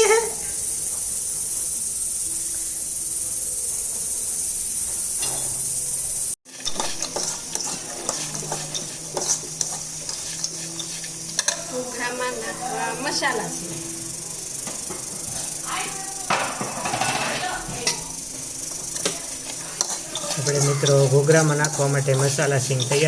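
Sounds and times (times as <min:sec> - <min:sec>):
peanuts sizzling in hot oil: 0:00.0 - 0:23.0
spoon stirring in a pan: 0:00.0 - 0:23.0.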